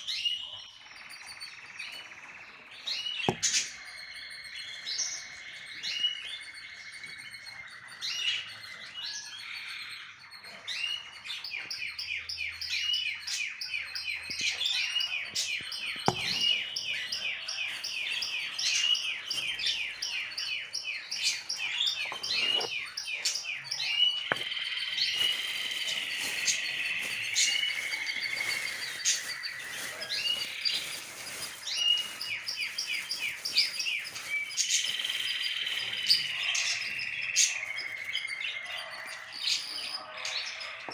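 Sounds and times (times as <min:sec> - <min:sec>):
cage birds chirping: 0:00.0 - 0:40.9.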